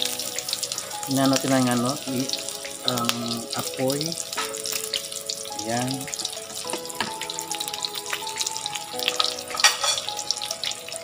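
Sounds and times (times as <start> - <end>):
background music of held notes: 0.0 - 11.0
pork and onion sizzling in wok: 0.0 - 11.0.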